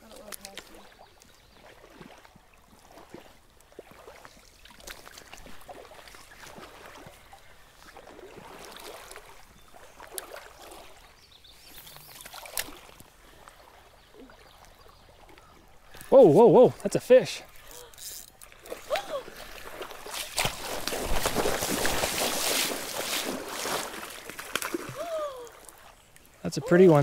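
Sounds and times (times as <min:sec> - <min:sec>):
stream water splashing and trickling: 0:00.0 - 0:27.0.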